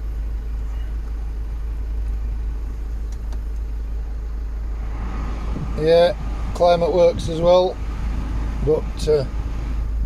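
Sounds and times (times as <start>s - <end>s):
diesel engine idling: 0.0s - 10.0s
fan blowing air: 0.0s - 10.0s.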